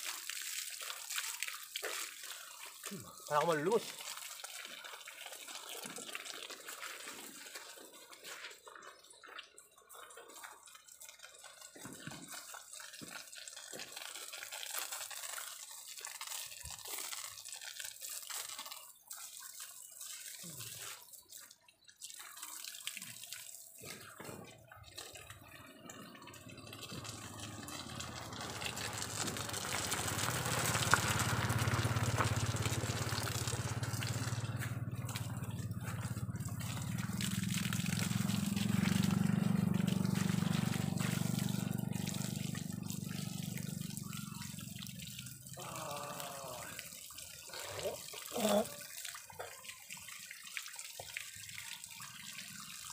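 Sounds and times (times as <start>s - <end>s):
hose water splashing: 0.0s - 52.9s.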